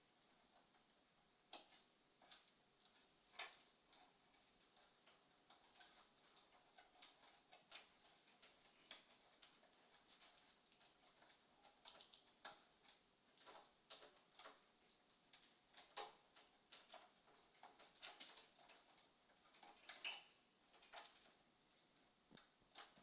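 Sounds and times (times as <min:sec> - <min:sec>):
faint light clicks and ticks: 0:00.1 - 0:23.0.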